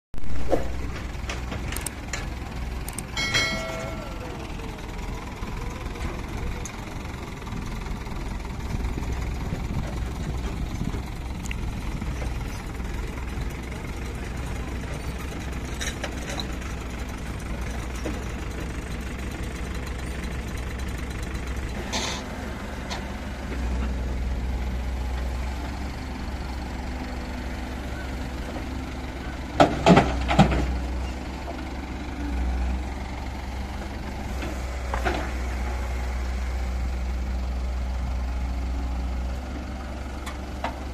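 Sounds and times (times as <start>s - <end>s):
tractor diesel engine running: 0.2s - 40.9s.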